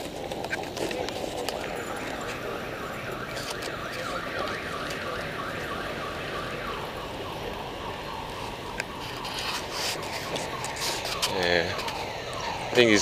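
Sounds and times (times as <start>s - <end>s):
electronic alarm warbling: 0.0s - 13.0s
street noise: 0.0s - 13.0s.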